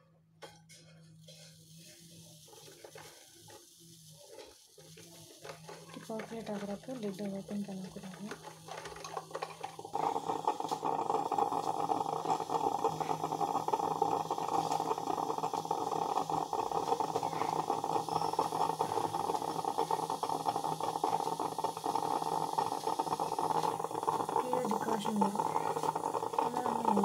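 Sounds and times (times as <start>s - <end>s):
coffee maker bubbling hiss: 0.7s - 27.0s.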